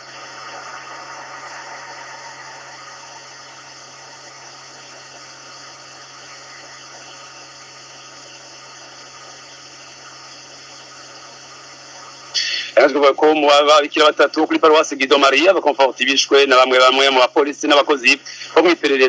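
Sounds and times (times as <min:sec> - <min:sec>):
low hum: 0:00.0 - 0:15.3
steady hiss: 0:00.0 - 0:19.0.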